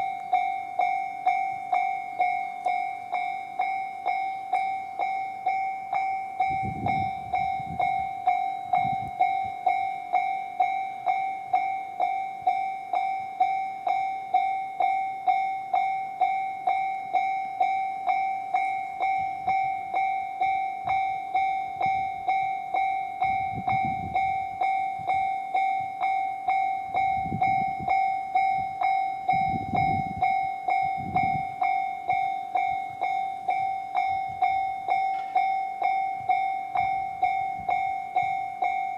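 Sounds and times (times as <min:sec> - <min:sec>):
crossing bell clanging: 0:00.0 - 0:38.9
passing train rumble: 0:00.0 - 0:38.9.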